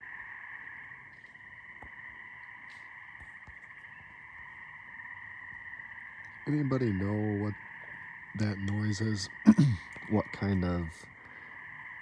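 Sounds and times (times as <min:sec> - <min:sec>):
chorus of small animals trilling: 0:00.0 - 0:12.0.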